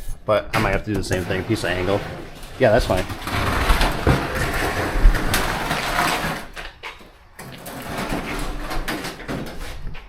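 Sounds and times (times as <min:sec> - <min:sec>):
metal parts clattering and scraping: 0:01.1 - 0:10.0.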